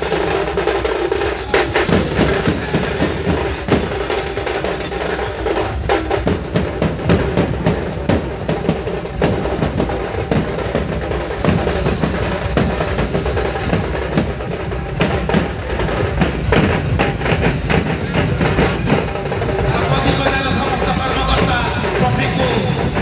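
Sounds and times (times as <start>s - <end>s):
barrel drums playing fast rhythm: 0.0s - 23.0s.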